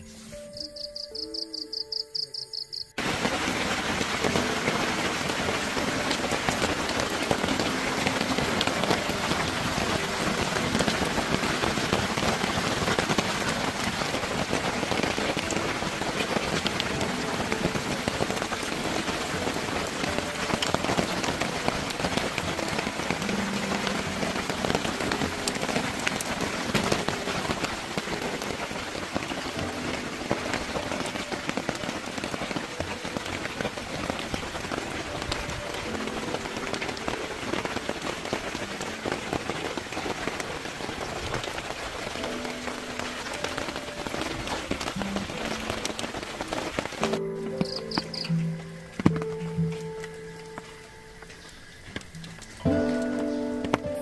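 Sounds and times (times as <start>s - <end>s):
rain falling on a tarp: 3.0s - 54.0s.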